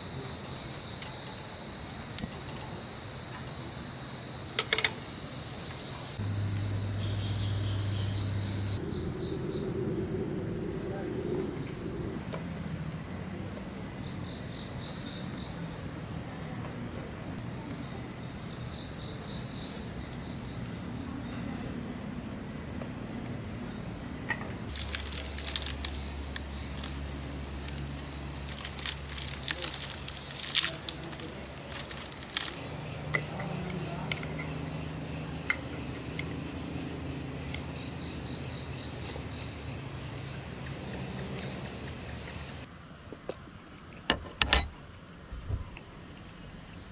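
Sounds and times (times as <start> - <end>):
high-pitched insect drone: 0.0 - 42.7.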